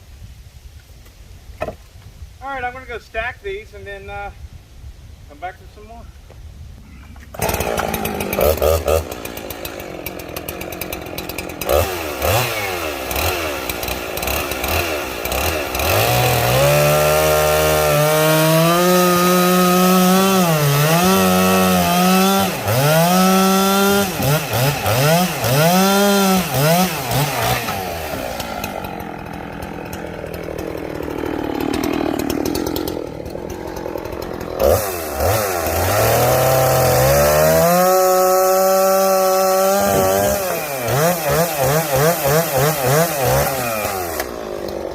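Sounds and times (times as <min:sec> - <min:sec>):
chainsaw cutting wood: 0:07.2 - 0:44.9.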